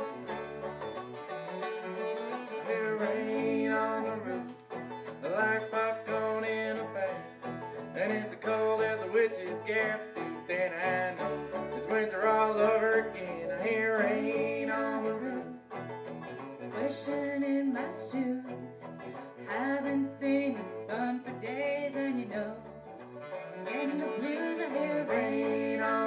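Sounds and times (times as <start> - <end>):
plucked string-band music: 0.0 - 26.0.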